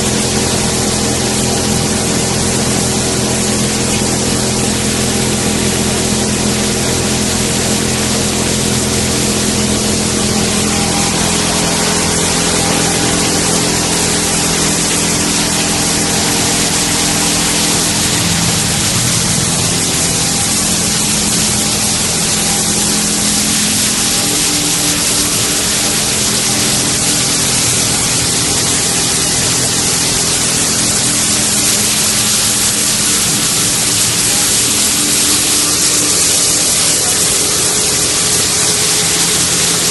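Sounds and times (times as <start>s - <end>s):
loud rushing noise: 0.0s - 39.9s
loud steady hiss: 0.0s - 39.9s
steady motor hums: 0.0s - 39.9s.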